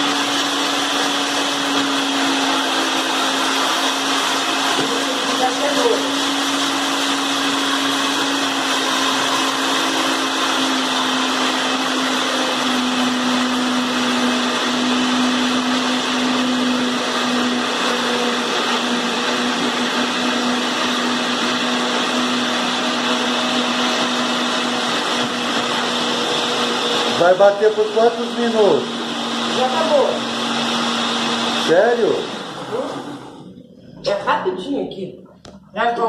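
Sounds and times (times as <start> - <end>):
blender motor running: 0.0 - 34.2.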